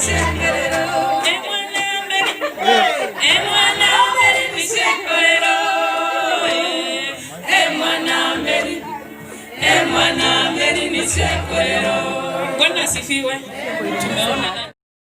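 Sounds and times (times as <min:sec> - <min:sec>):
group singing unaccompanied: 0:00.0 - 0:14.7.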